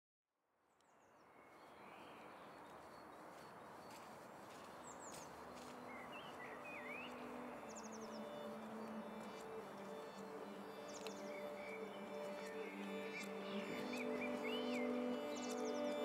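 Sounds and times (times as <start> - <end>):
birds chirping and trilling: 1.0 - 16.0.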